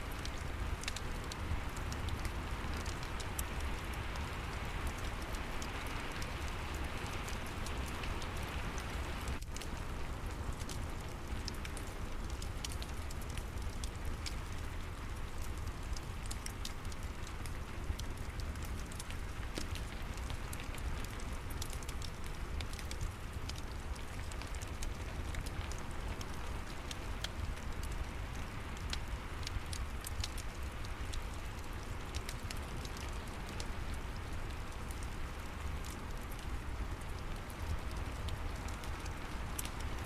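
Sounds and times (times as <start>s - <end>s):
fireplace crackling: 0.0s - 40.0s
steady rain: 0.0s - 40.0s.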